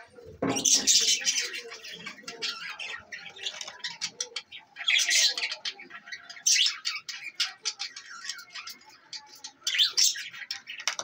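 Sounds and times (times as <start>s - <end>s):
budgerigars chirping: 0.5s - 11.0s.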